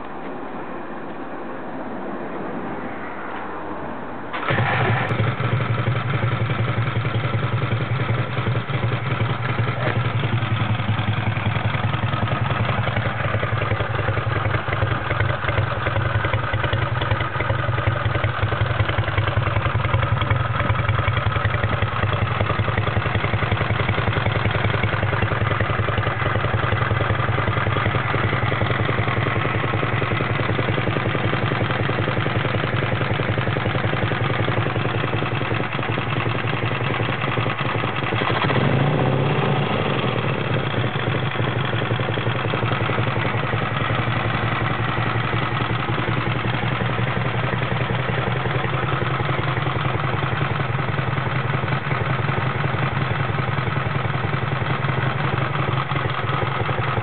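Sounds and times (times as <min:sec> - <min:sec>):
motorcycle engine idling: 0:04.3 - 0:57.0
motorcycle engine kick-started: 0:04.3 - 0:57.0.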